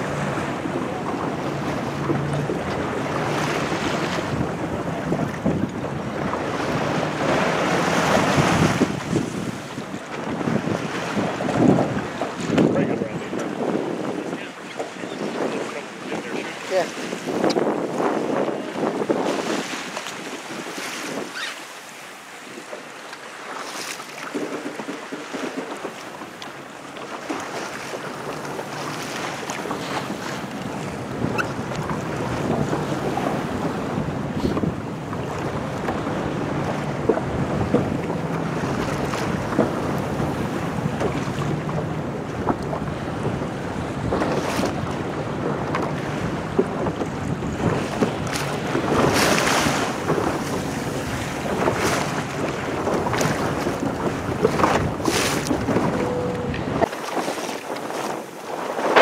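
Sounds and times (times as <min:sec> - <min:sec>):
wind buffeting microphone: 0:00.0 - 0:21.5, 0:27.1 - 0:59.0
water rushing along hull: 0:00.0 - 0:59.0.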